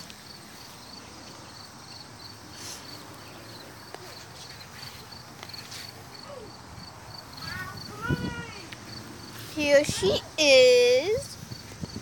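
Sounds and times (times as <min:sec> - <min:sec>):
insect chirping: 0:00.0 - 0:12.0
light outdoor hiss: 0:00.0 - 0:12.0.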